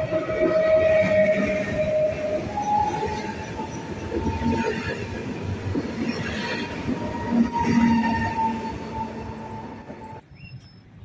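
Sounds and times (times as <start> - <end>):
train wheels rumbling: 0.0 - 10.3.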